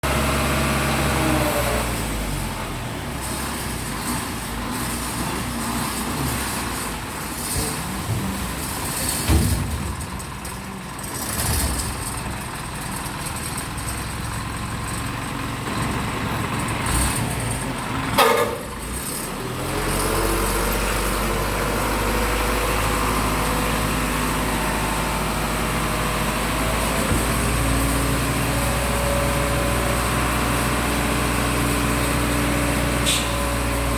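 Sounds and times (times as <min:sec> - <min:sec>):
dump truck engine running: 0:00.0 - 0:33.9.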